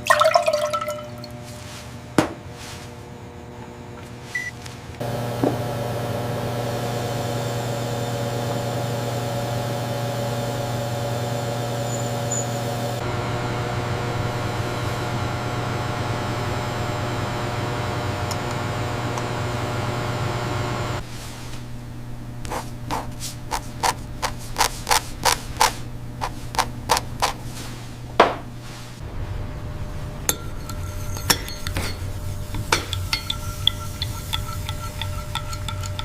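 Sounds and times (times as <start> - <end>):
motor hum: 3.1 - 27.4, 29.0 - 36.0.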